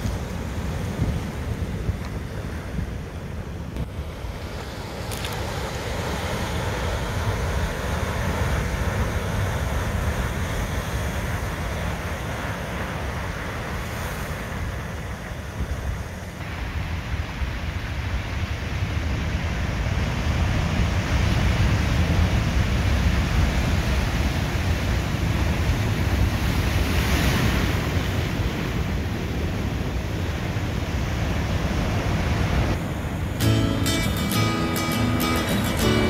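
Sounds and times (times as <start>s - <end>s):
surf crashing on rocky shore: 0.0s - 36.0s.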